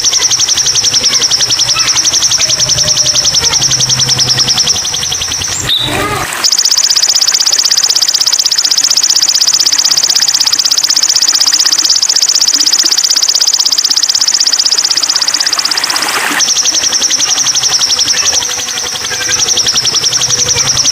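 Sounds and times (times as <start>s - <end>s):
bird singing rapid high trill: 0.0s - 20.9s.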